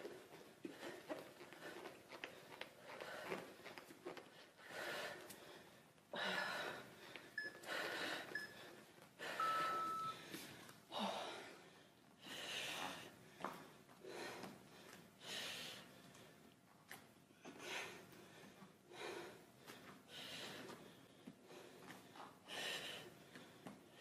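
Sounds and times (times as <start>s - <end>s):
woman breathing hard: 0.0s - 16.5s, 17.3s - 24.0s.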